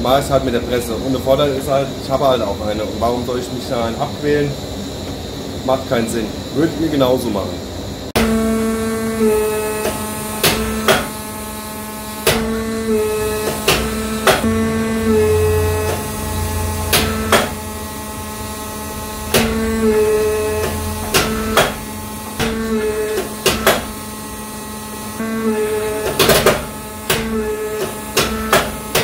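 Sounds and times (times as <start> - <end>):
forging press motor hum: 0.0 - 29.0.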